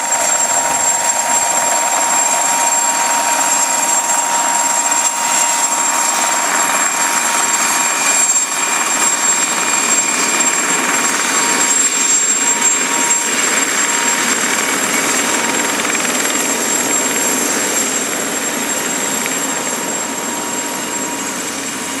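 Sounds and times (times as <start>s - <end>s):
helicopter rotor and engine: 0.0s - 22.0s
high whine: 0.0s - 22.0s.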